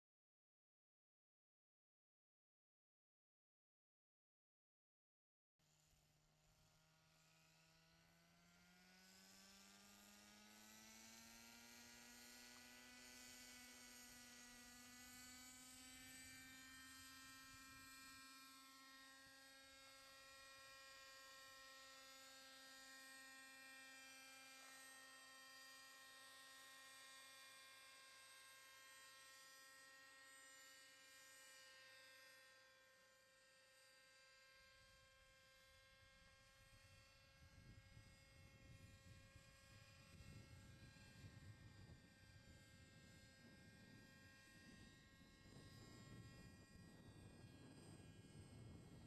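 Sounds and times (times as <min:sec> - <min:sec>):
model helicopter rotor whine: 0:05.7 - 0:49.0.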